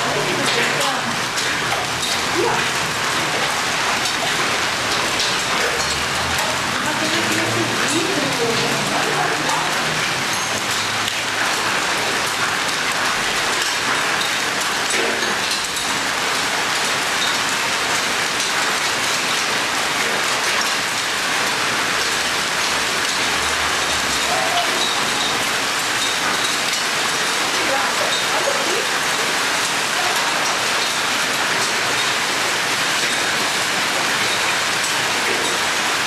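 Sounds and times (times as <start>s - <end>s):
rain pouring: 0.0s - 36.0s.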